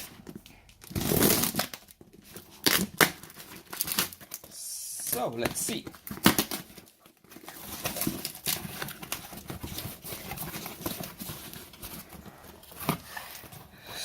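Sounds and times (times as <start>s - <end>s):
packing rustling: 0.0s - 13.8s.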